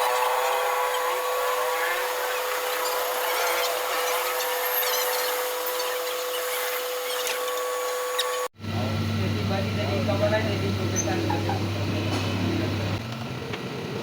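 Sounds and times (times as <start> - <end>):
lathe whine: 0.0 - 14.0.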